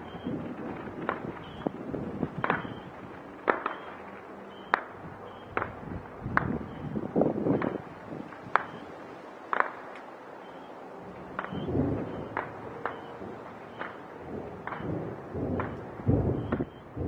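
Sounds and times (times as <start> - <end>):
fireworks bangs: 0.0 - 17.0
fireworks crackle: 0.0 - 17.0.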